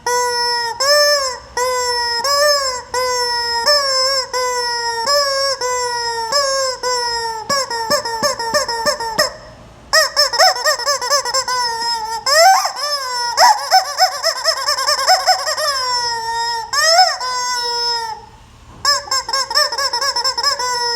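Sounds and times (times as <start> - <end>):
rubber chicken toy squeaking: 0.0 - 20.9.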